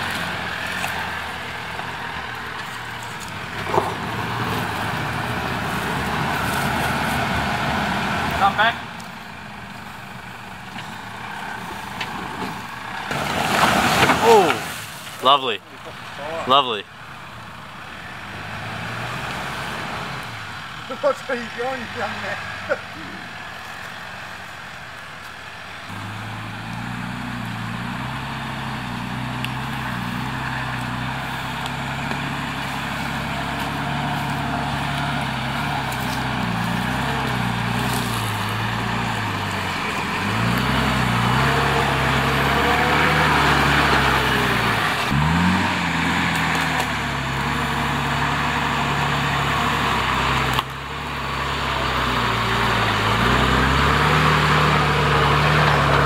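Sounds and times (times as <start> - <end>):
vehicle engine revving offroad: 0.0 - 56.0.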